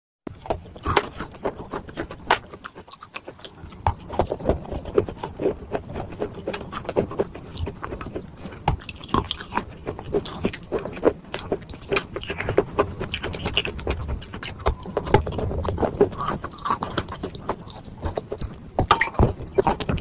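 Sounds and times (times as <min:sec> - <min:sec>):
chewing chalk crunches: 0:00.3 - 0:20.0.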